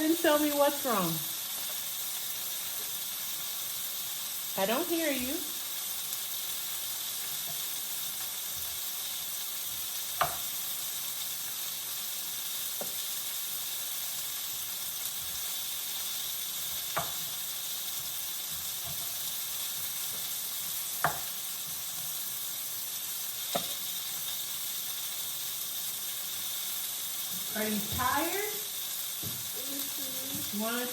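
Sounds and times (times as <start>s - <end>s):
food sizzling in frying pan: 0.0s - 30.9s.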